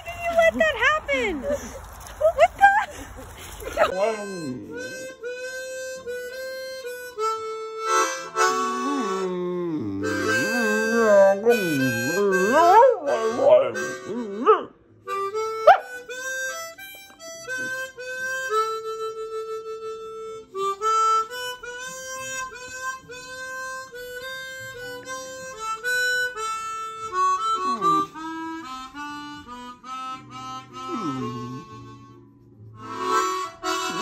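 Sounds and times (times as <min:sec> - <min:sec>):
harmonica music: 0:03.7 - 0:34.0.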